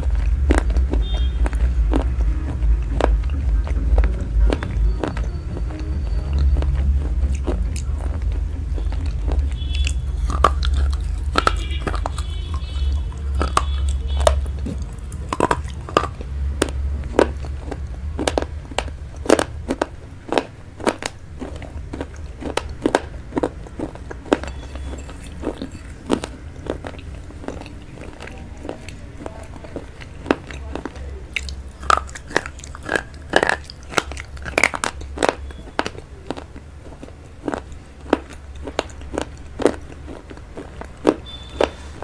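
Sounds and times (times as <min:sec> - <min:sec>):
sharp mouth clicks: 0:00.0 - 0:42.0
steady low hum: 0:00.0 - 0:42.0
wet chewing and crunching: 0:00.0 - 0:42.0.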